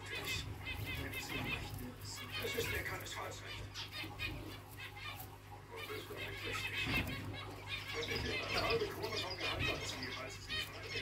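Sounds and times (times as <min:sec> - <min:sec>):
quail chirping calls: 0:00.0 - 0:11.0.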